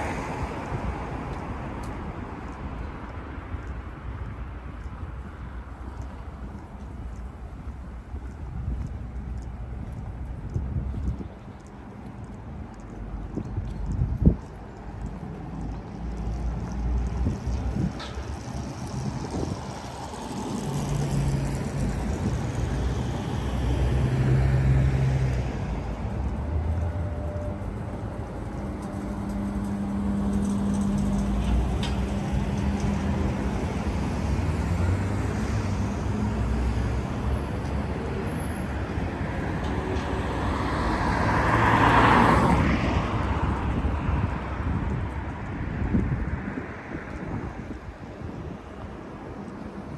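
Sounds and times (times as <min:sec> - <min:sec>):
vehicles passing: 0:00.0 - 0:49.9.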